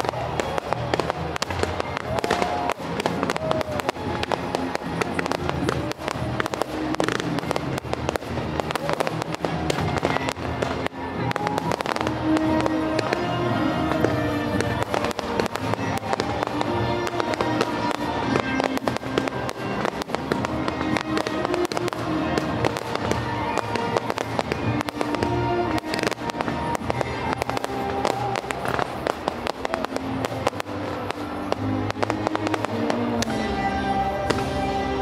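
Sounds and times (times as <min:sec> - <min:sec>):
fireworks popping and crackling: 0:00.0 - 0:35.0
music playing: 0:00.0 - 0:35.0.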